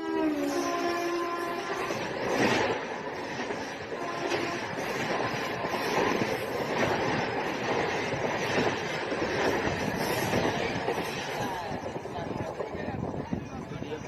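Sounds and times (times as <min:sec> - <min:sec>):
train rolling past on rails: 0:00.0 - 0:14.0.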